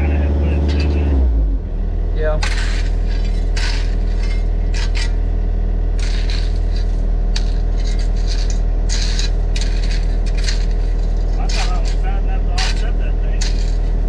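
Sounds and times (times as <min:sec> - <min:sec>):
excavator scraping and clatter: 0:00.0 - 0:01.3, 0:02.3 - 0:14.0
diesel engine under load: 0:00.0 - 0:14.0.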